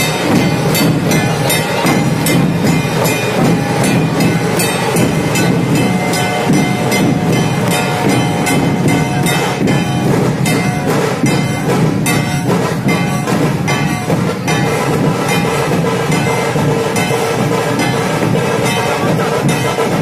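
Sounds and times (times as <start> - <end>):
drum ensemble beating fast rhythm: 0.0 - 20.0.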